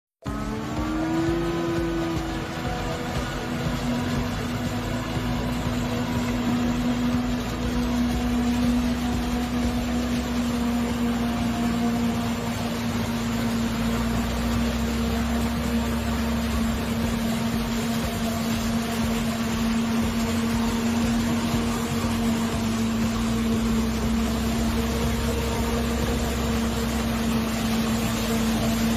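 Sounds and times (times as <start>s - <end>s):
forage harvester droning: 0.2s - 28.9s
truck running: 0.2s - 28.9s.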